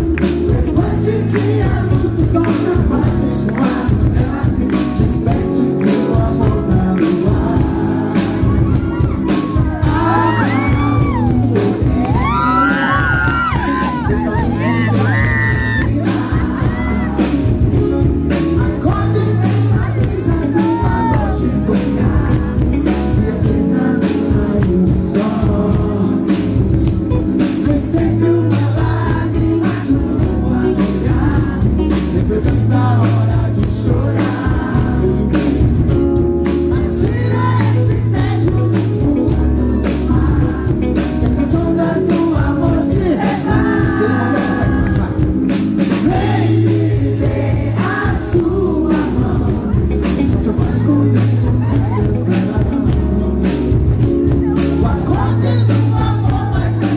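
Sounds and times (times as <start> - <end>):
live band playing: 0.0 - 56.9
man singing into microphone: 0.0 - 56.9.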